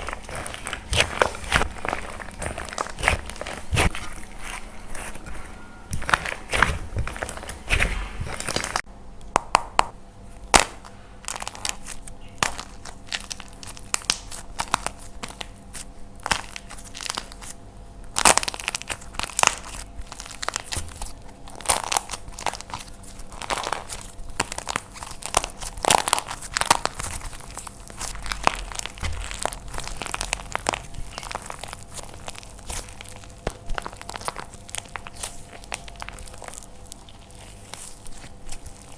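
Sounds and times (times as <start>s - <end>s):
dried clay crunching and cracking: 0.0s - 38.9s.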